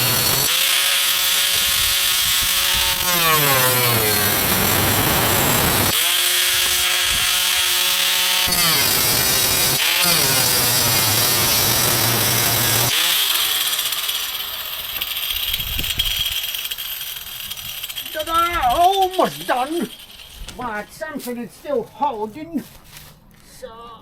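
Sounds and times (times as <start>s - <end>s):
power tool cutting metal sheet: 0.0s - 20.5s.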